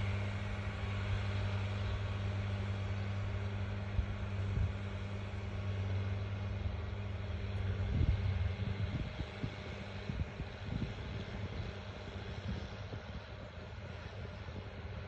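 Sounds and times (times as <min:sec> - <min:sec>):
tractor engine drone: 0:00.0 - 0:15.0.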